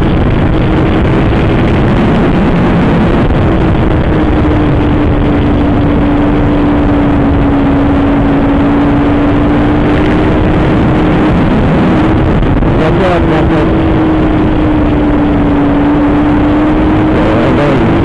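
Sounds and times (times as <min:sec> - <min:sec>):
motorcycle engine at high revs: 0:00.0 - 0:18.0
wind rushing: 0:00.0 - 0:18.0.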